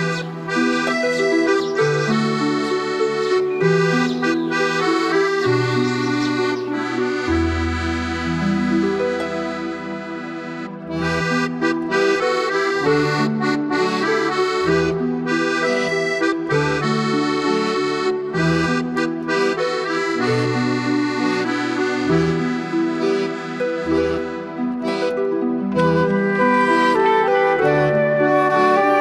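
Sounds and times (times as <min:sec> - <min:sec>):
reed-like melody: 0:00.0 - 0:29.0.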